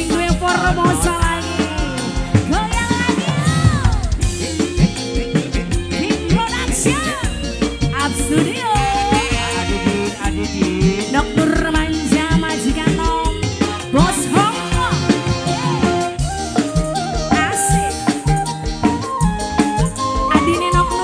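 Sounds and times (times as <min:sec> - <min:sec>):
bass drum: 0:00.0 - 0:21.0
live band music: 0:00.0 - 0:21.0
sliding melody line: 0:00.0 - 0:21.0.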